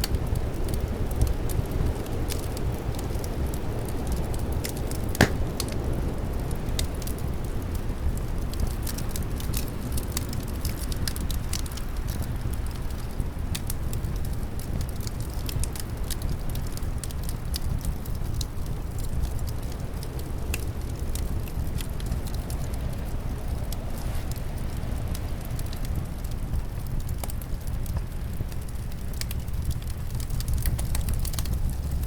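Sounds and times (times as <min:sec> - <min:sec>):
low rush of wind: 0:00.0 - 0:32.0
wood fire crackling: 0:00.0 - 0:32.0.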